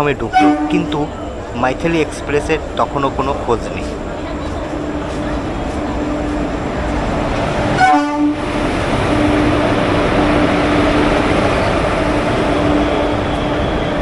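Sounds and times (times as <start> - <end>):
train coaches rushing rumble: 0.0 - 14.0.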